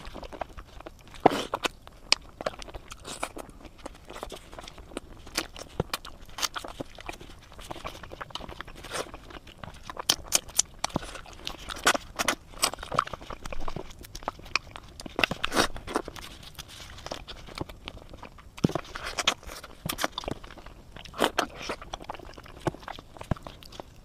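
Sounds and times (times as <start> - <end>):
close-miked chewing and smacking: 0.0 - 24.0.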